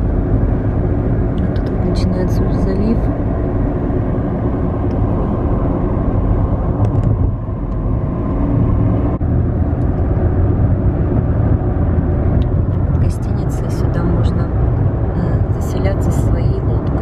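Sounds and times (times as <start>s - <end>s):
car road rumble: 0.0s - 17.0s.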